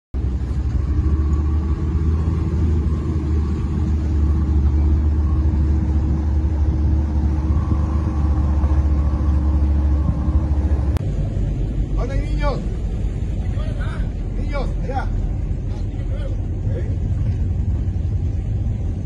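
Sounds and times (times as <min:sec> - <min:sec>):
boat motor running: 0:00.2 - 0:19.0.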